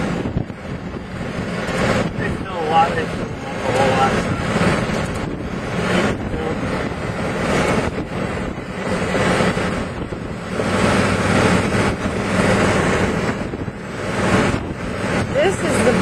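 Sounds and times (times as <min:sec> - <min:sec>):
strong wind on microphone: 0:00.0 - 0:16.0.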